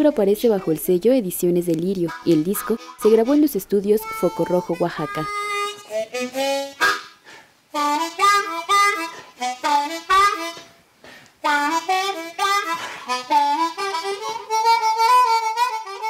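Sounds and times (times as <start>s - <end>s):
harmonica bent wavering notes: 0.0s - 1.3s, 1.9s - 10.8s, 11.4s - 16.0s.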